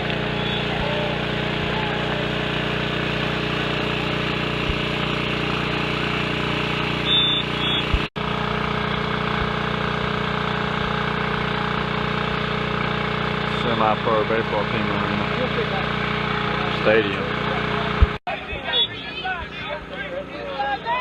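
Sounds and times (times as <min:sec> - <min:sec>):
steady mechanical drone: 0:00.0 - 0:21.0.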